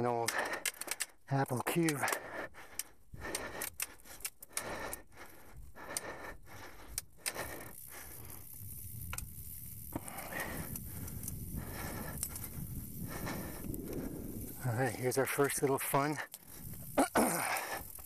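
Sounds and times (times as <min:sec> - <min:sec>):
mountain bike rattling and clicking: 0:00.0 - 0:18.0
tyres rumbling on dirt trail: 0:00.0 - 0:18.0.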